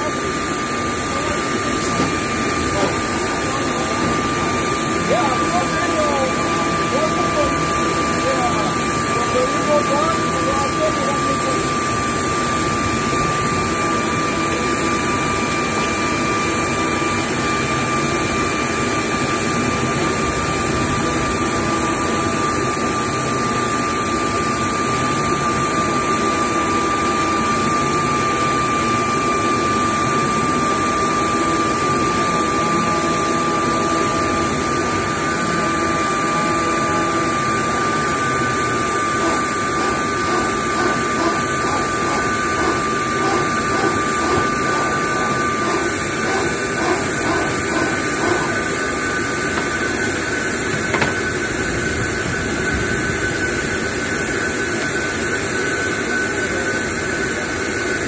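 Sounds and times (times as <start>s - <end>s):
jet turbine whine and roar: 0.0s - 58.0s.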